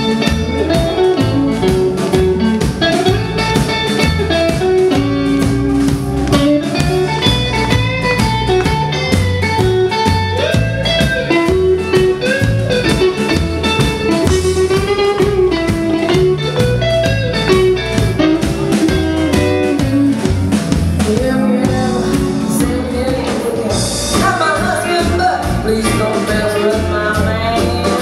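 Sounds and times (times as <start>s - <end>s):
live blues band: 0.0s - 28.0s.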